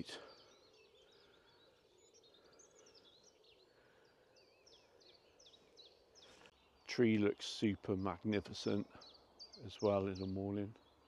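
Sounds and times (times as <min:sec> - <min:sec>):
distant birds singing: 0:00.0 - 0:11.0.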